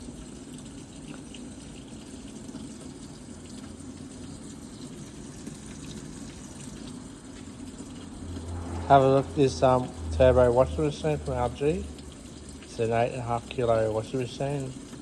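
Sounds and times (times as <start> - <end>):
water rushing in washing machine: 0.0 - 15.0.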